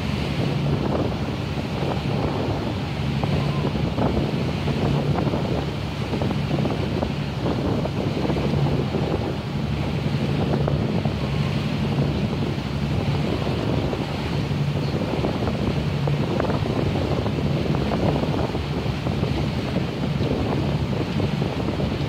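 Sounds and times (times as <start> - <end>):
boat engine humming: 0.0 - 22.0
water washing along hull: 0.0 - 22.0
wind noise on microphone: 0.0 - 22.0.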